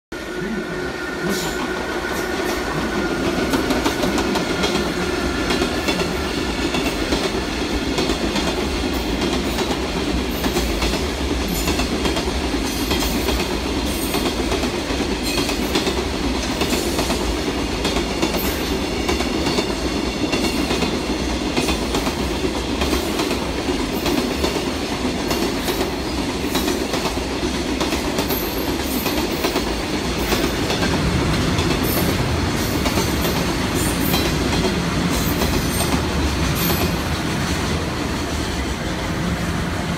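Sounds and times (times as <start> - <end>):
train wheels clicking over rail joints: 1.3 - 38.6.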